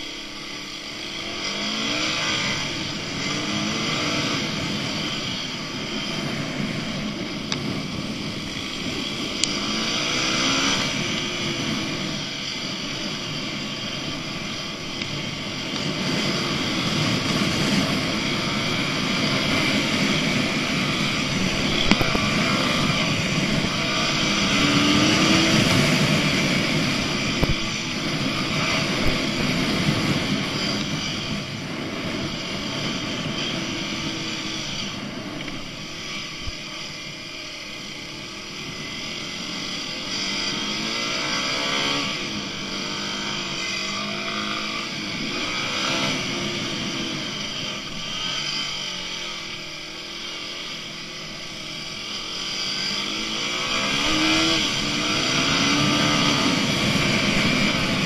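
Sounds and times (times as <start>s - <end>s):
dirt bike engines revving: 0.0s - 58.0s
steady rushing noise: 0.0s - 58.0s.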